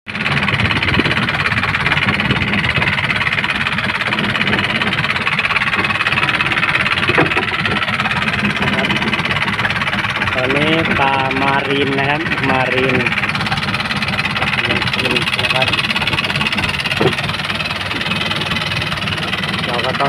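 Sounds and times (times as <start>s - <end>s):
boat engine droning: 0.1s - 20.0s.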